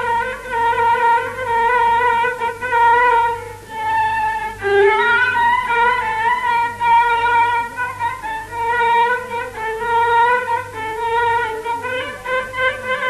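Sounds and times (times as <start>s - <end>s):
ornamented melody with sliding pitch: 0.0s - 13.0s.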